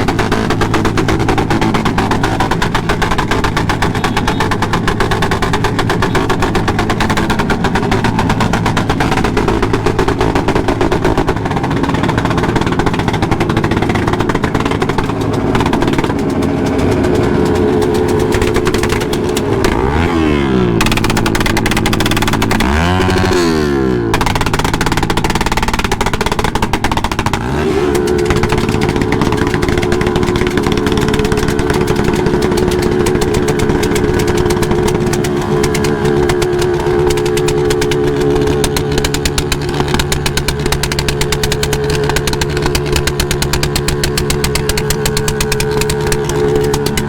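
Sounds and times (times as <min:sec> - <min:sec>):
motorcycle engines revving: 0:00.0 - 0:47.0.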